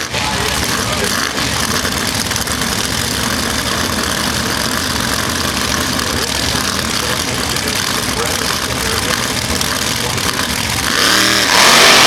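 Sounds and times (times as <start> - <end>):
diesel truck engine idling: 0.0 - 11.6.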